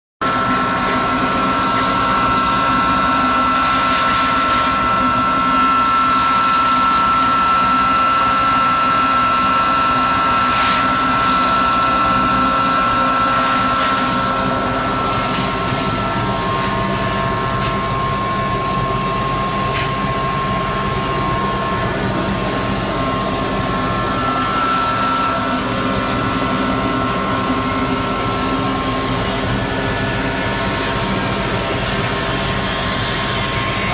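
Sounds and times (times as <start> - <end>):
grinding machine motor hum: 0.2 - 33.9
high whine: 0.2 - 33.9.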